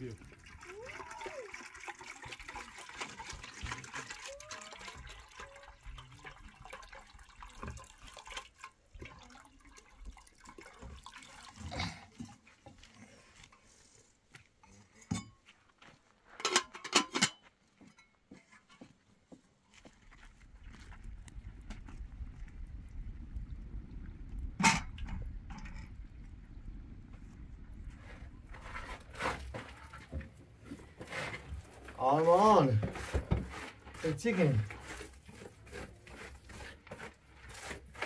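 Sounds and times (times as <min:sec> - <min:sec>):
water splashing and trickling: 0:00.0 - 0:14.2, 0:19.8 - 0:38.0.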